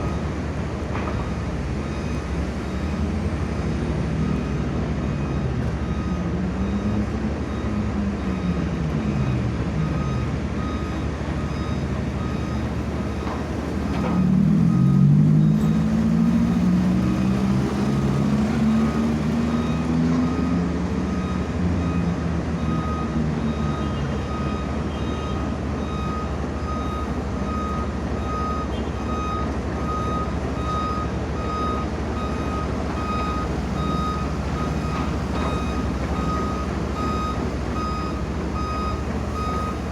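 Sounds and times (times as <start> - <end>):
reversing alarm beeps: 0.0 - 0.4, 1.2 - 39.9
excavator diesel engine revving: 0.0 - 39.9.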